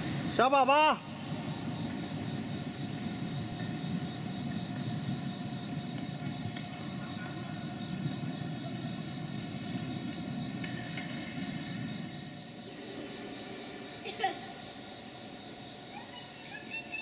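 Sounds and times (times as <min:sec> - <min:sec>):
faint steady tones: 0:00.0 - 0:17.0
mechanical hum: 0:00.0 - 0:17.0.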